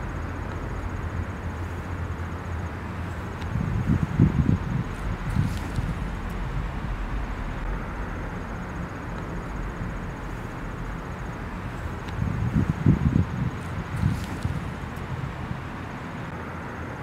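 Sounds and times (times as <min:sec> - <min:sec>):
low rumble: 0:00.0 - 0:15.8
even hiss: 0:00.0 - 0:17.0.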